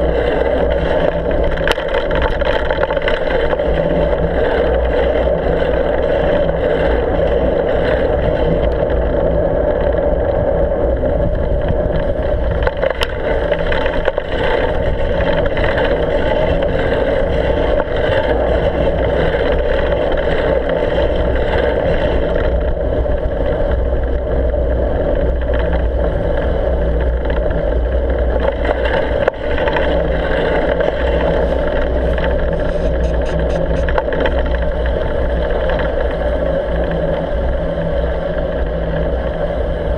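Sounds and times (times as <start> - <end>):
bike rattle: 0.0 - 39.9
tyre noise on slushy road: 0.0 - 39.9
wind: 0.0 - 39.9.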